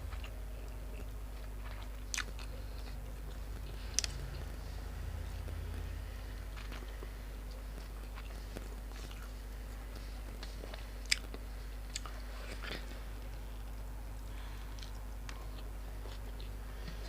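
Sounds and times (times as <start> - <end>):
person chewing food: 0.0 - 17.0
steady low hum: 0.0 - 17.0.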